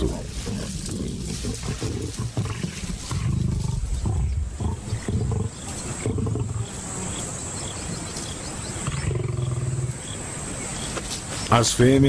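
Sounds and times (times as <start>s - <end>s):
lions growling: 0.0s - 10.2s.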